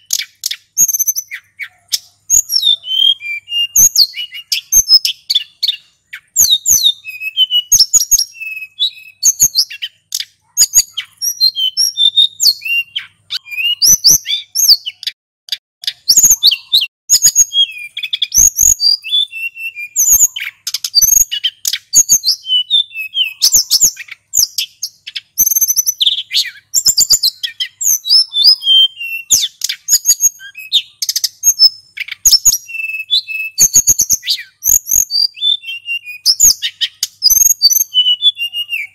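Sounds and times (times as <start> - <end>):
bird whistled phrases and trills: 0.0 - 38.9.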